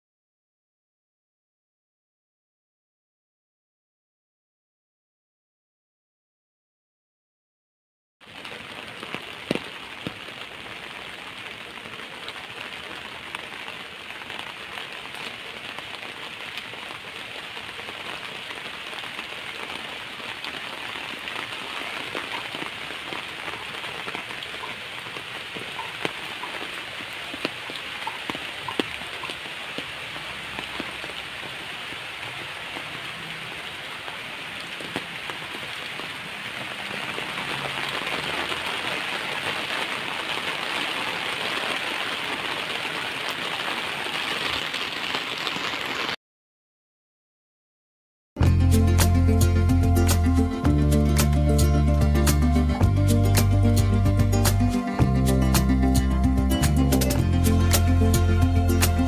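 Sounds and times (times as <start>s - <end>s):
steady rain falling: 8.2s - 46.2s, 48.4s - 59.0s.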